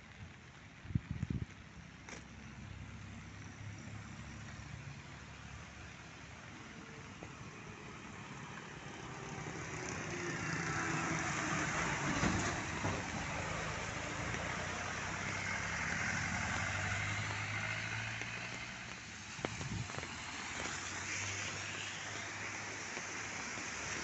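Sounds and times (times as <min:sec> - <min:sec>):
rain hiss: 0:00.0 - 0:24.0
tractor engine hum: 0:01.8 - 0:21.3
tyres hissing through water: 0:01.8 - 0:24.0
car passing: 0:02.5 - 0:24.0.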